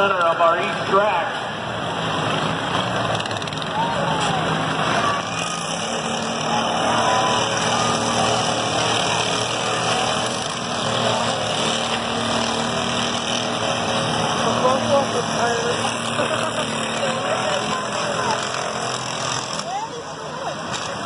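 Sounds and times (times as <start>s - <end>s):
riding lawn mower engines: 0.0s - 21.0s.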